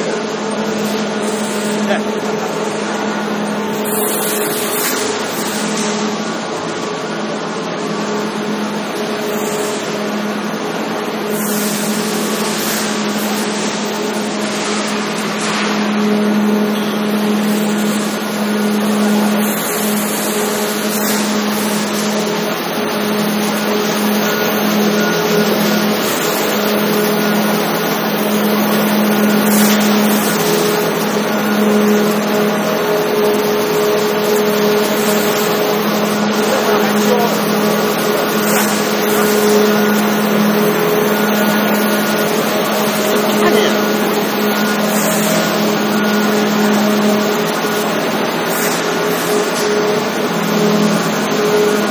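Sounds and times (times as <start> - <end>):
motor hum: 0.0 - 51.9.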